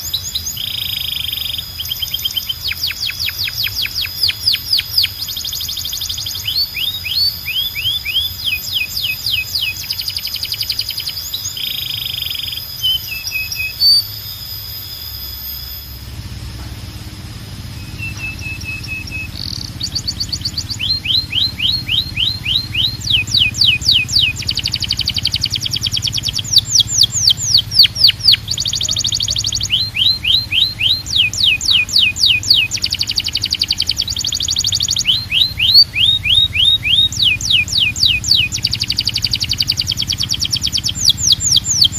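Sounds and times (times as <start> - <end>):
canary singing: 0.0 - 41.9
low background hum: 0.0 - 41.9.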